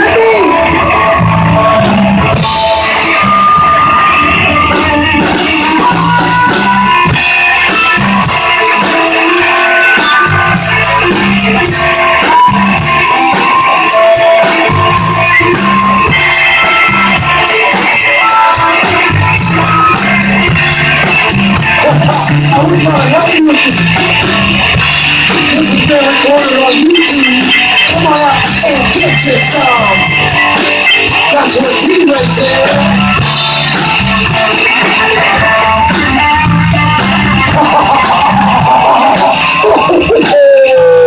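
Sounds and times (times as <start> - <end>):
drum-kit beat: 0.0 - 41.0
electric guitar: 0.0 - 41.0
live rock band playing: 0.0 - 41.0.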